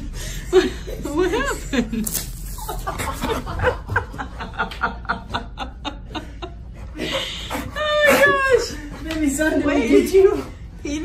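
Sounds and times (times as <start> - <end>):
people snickering and chuckling: 0.0 - 8.9.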